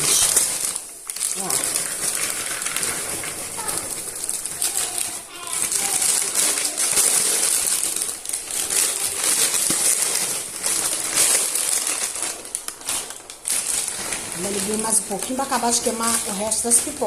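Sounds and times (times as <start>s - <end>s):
paper bag crinkling and rustling: 0.0s - 17.0s
popcorn crackling and rattling: 0.0s - 17.0s.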